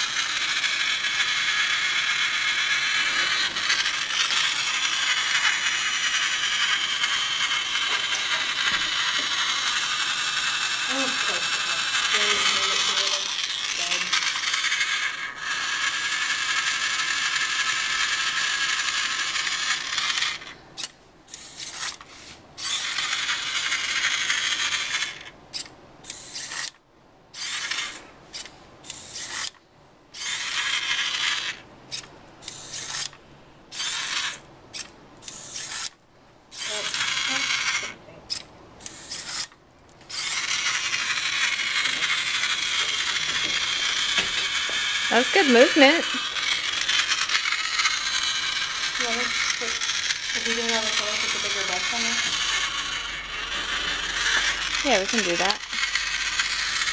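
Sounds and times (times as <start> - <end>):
robot motors whirring: 0.0 - 26.8, 27.4 - 29.6, 30.2 - 56.9.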